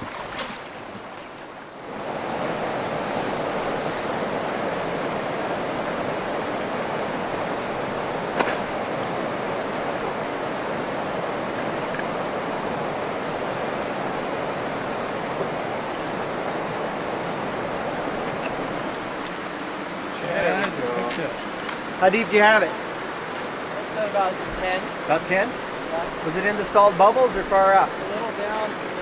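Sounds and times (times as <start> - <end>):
fast river current rushing: 0.0 - 29.0.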